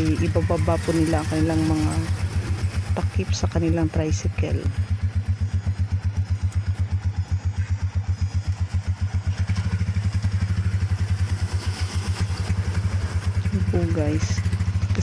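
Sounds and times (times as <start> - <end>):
motorcycle engine idling: 0.0 - 15.0
motorcycles passing: 0.0 - 15.0.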